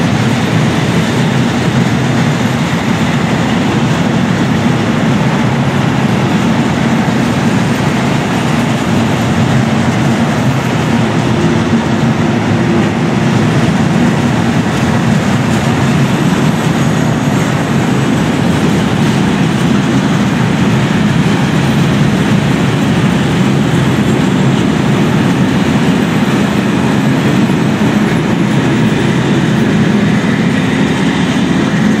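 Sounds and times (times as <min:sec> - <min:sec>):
train wheels on rails clacking: 0:00.0 - 0:32.0.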